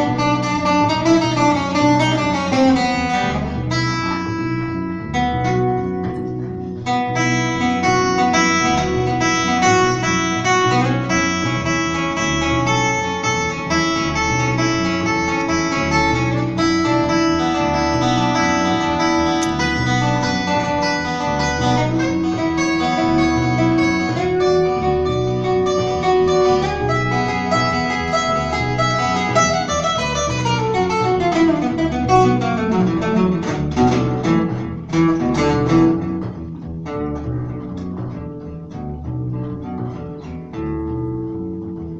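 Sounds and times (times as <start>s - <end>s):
acoustic guitar jazz: 0.0s - 41.9s
upright bass: 0.0s - 41.9s.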